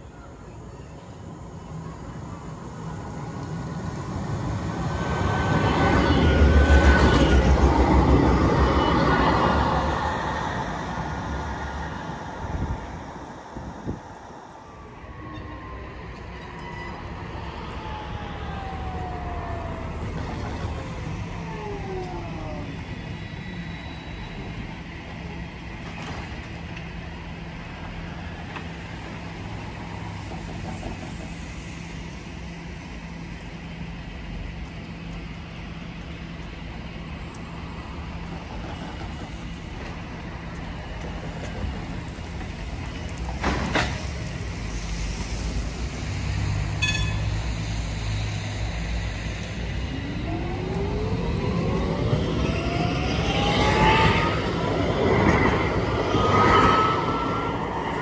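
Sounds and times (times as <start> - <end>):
tram drive falling whine: 0.0 - 58.0.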